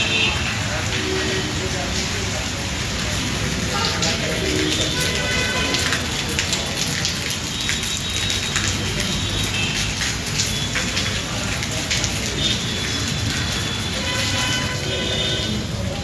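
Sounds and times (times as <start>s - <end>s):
rain on concrete: 0.0s - 16.0s.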